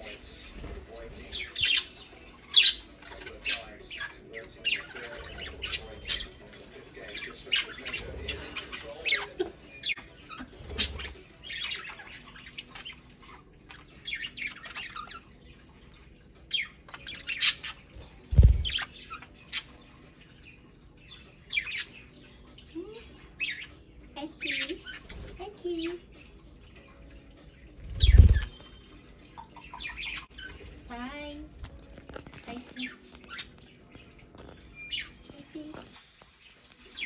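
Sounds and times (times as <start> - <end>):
budgerigars chirping and squawking: 0.0 - 37.0.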